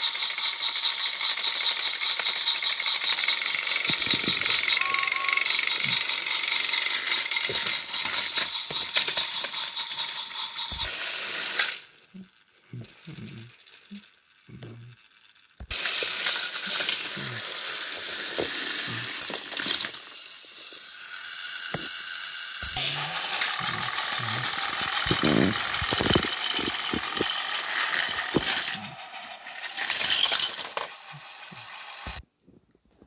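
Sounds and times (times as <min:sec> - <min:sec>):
toy engines rattling and grinding: 0:00.0 - 0:32.2.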